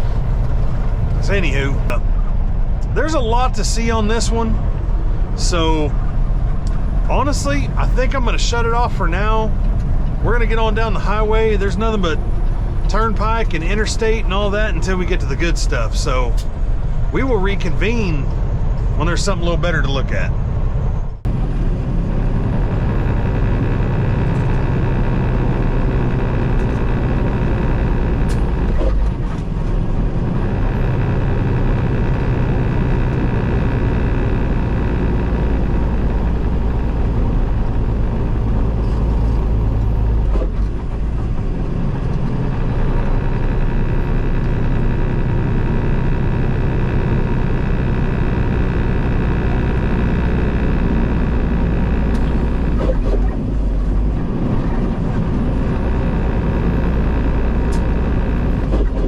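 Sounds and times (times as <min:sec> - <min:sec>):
road noise: 0:00.0 - 0:59.0
truck diesel engine droning: 0:00.0 - 0:59.0.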